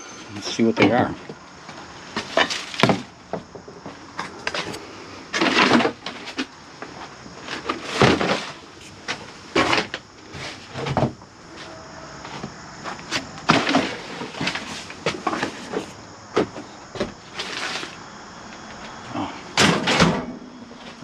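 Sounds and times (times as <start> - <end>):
objects clunking and scraping: 0.0 - 21.0.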